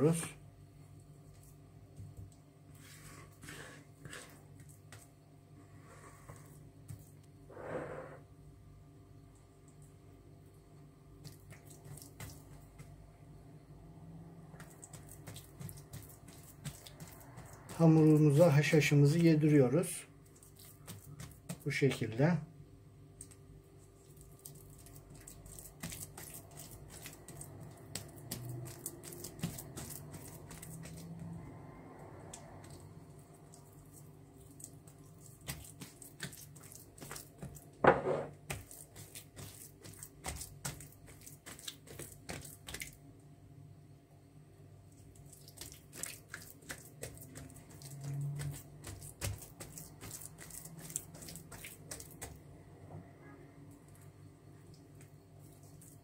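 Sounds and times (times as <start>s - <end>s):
wet squishing of dough: 0.0s - 7.4s, 11.0s - 37.8s, 38.4s - 43.2s, 44.8s - 52.7s, 53.7s - 56.0s.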